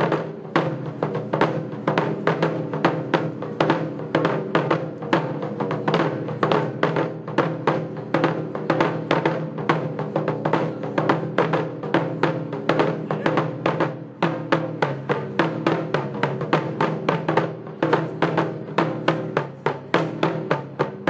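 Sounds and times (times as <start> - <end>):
barrel drums struck with sticks: 0.0 - 21.0.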